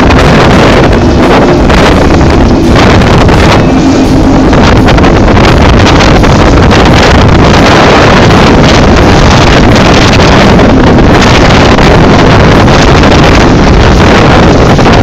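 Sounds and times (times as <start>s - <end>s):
outboard motor and hull: 0.0s - 15.0s
wind buffeting microphone: 0.0s - 15.0s.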